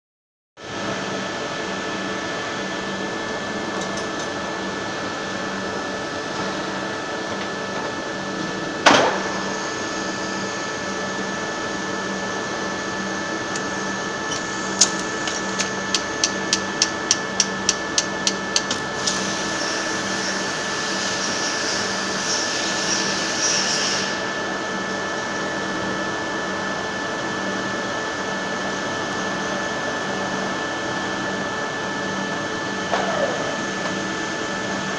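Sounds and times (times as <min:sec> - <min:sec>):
milling machine humming: 0:00.7 - 0:34.9.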